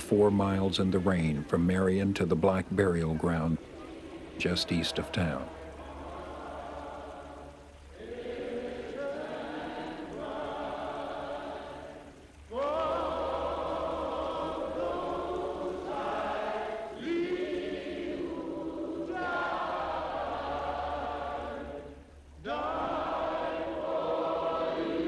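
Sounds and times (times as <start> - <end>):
choir singing long notes: 0.0 - 25.0.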